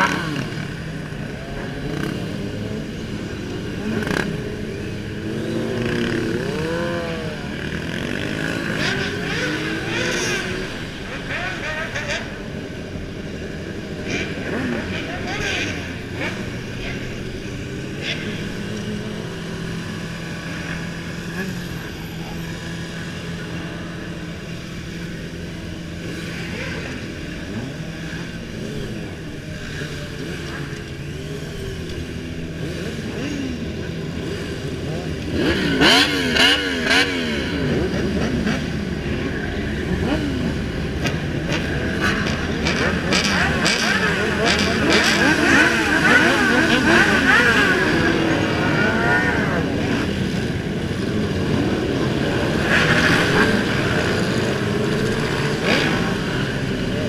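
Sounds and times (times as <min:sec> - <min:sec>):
motorcycles revving and passing: 0:00.0 - 0:57.0.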